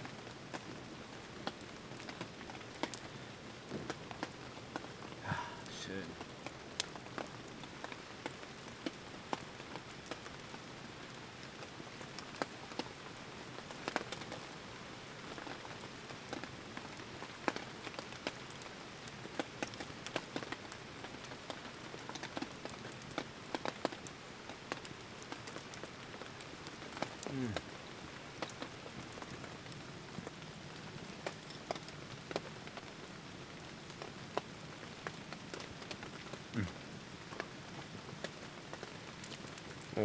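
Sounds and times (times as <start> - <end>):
campfire crackling: 0.0 - 40.0.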